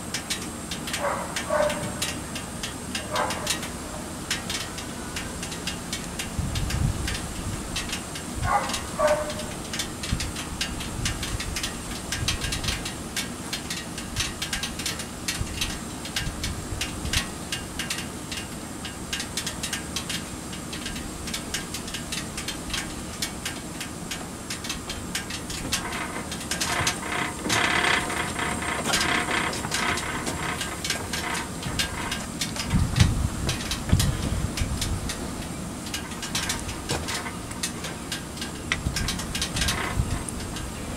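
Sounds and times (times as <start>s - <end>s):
low burner rumble: 0.0s - 40.9s
ticking and crackling of griddle: 0.0s - 40.9s.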